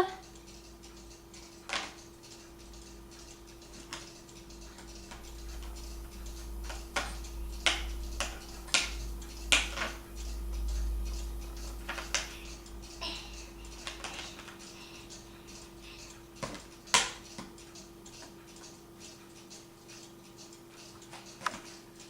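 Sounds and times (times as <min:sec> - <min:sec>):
faint steady hum: 0:00.0 - 0:22.0
light clicks and taps: 0:00.2 - 0:22.0.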